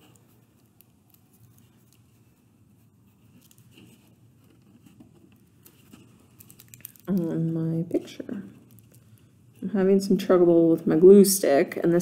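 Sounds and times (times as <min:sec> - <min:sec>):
tissue paper rustling and ticking: 0:00.0 - 0:09.8
low room hum: 0:00.0 - 0:12.0.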